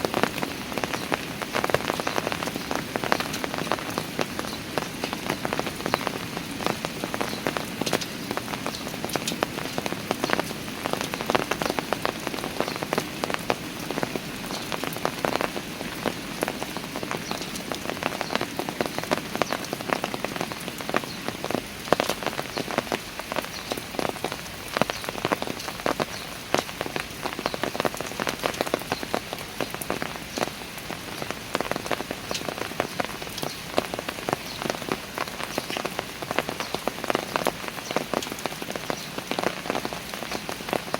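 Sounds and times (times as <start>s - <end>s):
rain on stone steps: 0.0s - 40.9s.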